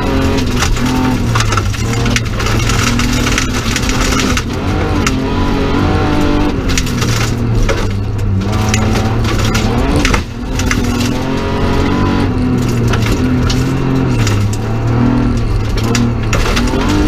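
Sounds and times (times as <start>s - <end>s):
gravel rattling against car: 0.0s - 17.0s
rally car engine revving: 0.0s - 17.0s.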